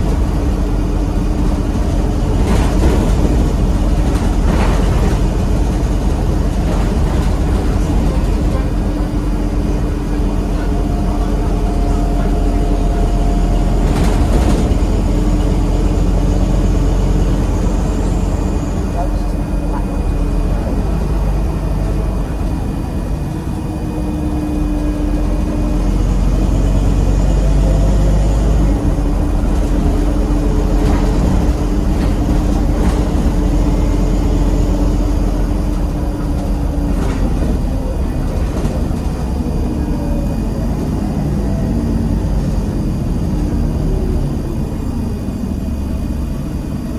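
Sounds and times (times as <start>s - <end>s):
bus diesel engine drone: 0.0s - 46.9s.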